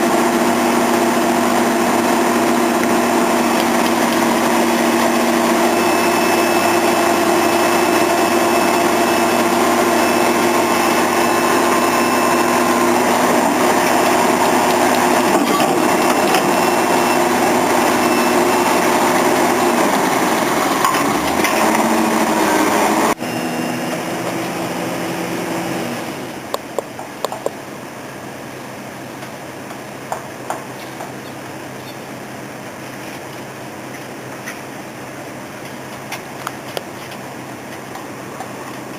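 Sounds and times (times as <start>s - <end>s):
pile-driving rig engine humming: 0.0s - 38.9s.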